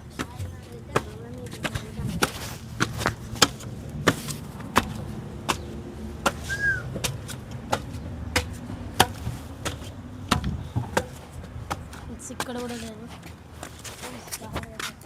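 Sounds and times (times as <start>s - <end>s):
footsteps walking: 0.2s - 15.0s.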